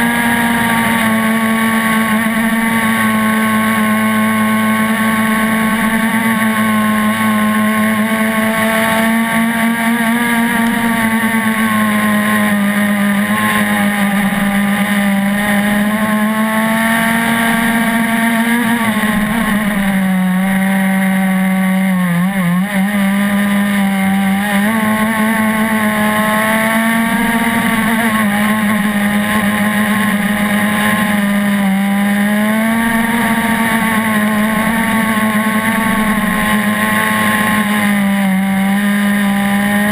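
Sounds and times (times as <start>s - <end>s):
small gas engine buzzing: 0.0s - 39.9s.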